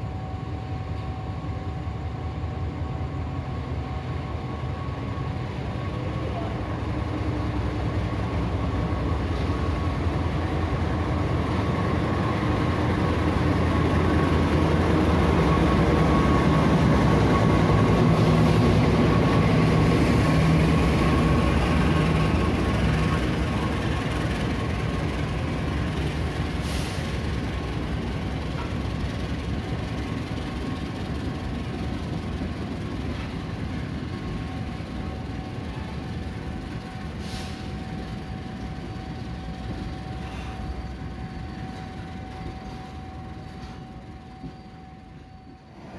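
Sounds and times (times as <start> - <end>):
diesel locomotive engine drone: 0.0 - 45.9
train coaches rolling past: 0.0 - 45.9.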